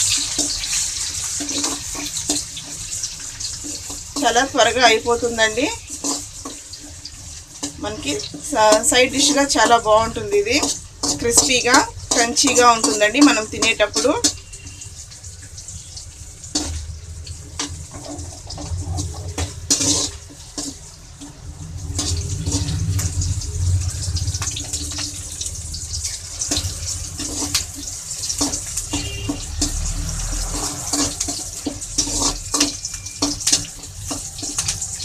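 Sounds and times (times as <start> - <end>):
steel spoon scraping a pan: 0.0 - 15.0, 17.6 - 35.0
onion sizzling in hot oil: 0.0 - 35.0.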